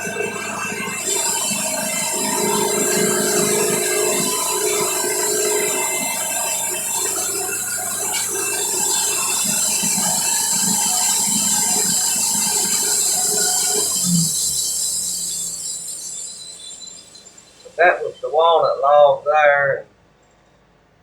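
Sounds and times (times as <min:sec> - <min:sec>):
band sawmill cutting log: 0:00.0 - 0:17.8.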